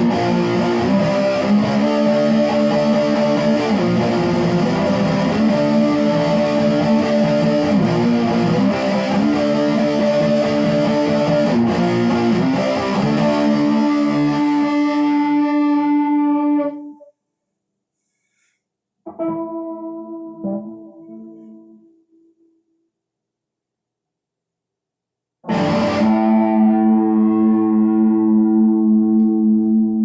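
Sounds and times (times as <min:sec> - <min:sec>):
guitar chords: 0:00.0 - 0:17.1, 0:19.0 - 0:22.7, 0:25.4 - 0:30.0.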